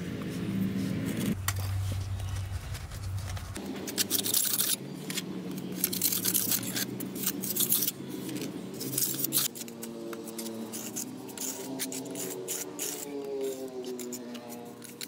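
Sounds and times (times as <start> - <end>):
steady low hum: 0.0 - 13.1
small objects clicking and scraping: 1.2 - 15.0.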